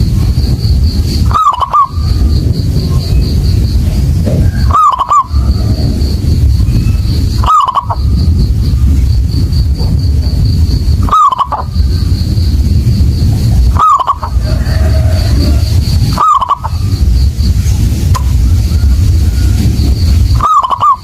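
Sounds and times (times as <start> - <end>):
low rumble: 0.0 - 21.0
dove cooing: 1.1 - 10.1, 10.9 - 12.2, 13.2 - 17.2, 18.2 - 21.0.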